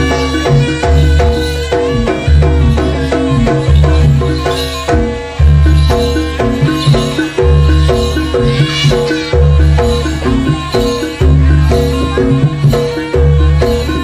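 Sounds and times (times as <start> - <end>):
high wavering melodic line: 0.0 - 14.0
metallophone melody: 0.0 - 14.0.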